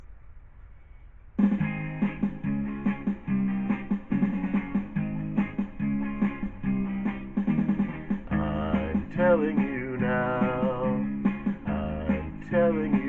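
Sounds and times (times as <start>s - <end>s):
bass: 1.4s - 13.0s
strummed guitar: 1.4s - 13.0s.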